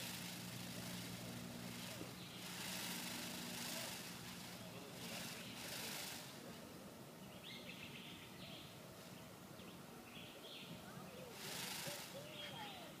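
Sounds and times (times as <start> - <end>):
rustling hiss: 0.0 - 13.0
small birds chirping: 0.0 - 13.0.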